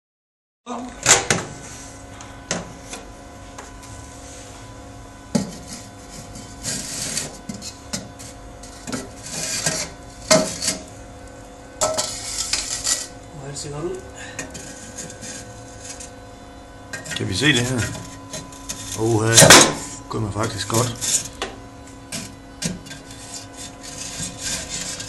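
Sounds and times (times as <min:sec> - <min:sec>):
steady hum: 0:00.7 - 0:25.0.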